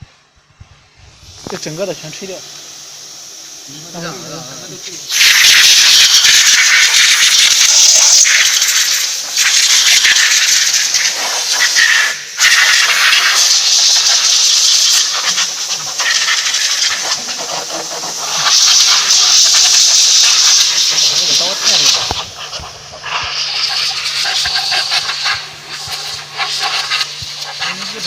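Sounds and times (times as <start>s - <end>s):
compressed air blow gun hissing: 0.0s - 28.0s.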